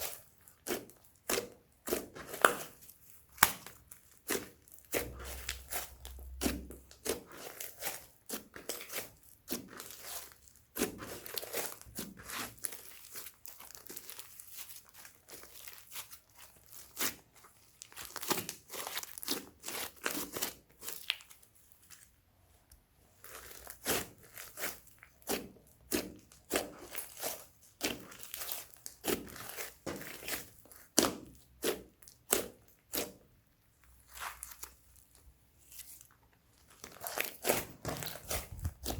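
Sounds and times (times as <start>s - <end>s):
slime crackling and popping: 0.0s - 22.1s, 23.2s - 38.9s.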